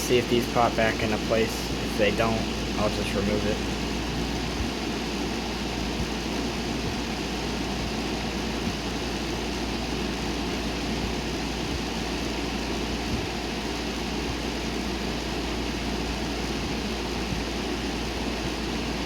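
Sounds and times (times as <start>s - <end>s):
window air conditioner running: 0.0s - 19.0s.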